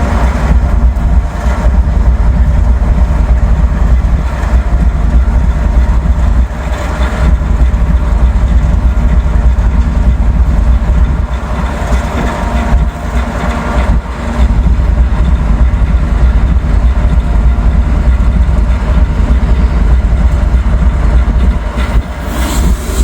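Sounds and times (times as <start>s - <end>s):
diesel locomotive running: 0.0s - 23.0s
wind buffeting microphone: 0.0s - 23.0s.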